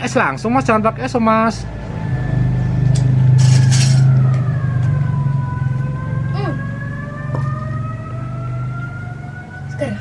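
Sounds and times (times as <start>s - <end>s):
siren wailing: 0.7s - 10.0s
loud steady low hum: 1.6s - 10.0s.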